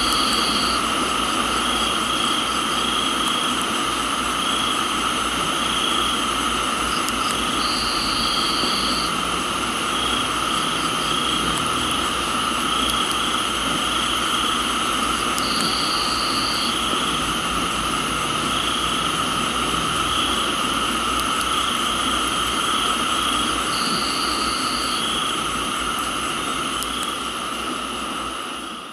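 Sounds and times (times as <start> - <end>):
crickets and insects trilling: 0.0 - 28.9
rain hissing: 0.0 - 28.9.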